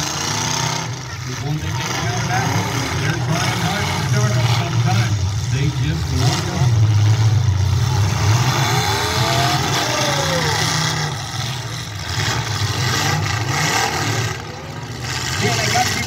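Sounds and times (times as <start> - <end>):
car engines rumbling: 0.0 - 16.0
engine revving: 0.0 - 16.0.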